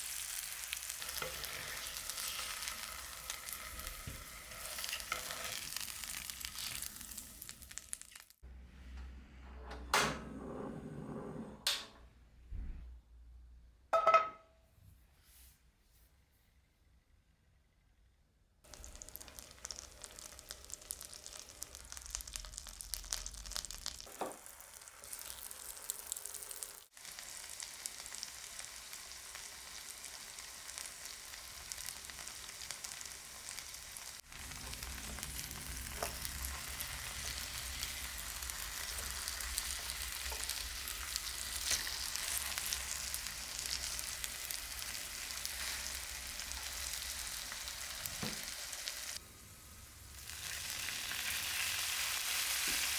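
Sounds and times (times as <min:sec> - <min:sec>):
food sizzling in a frying pan: 0:00.0 - 0:08.4, 0:18.7 - 0:52.9.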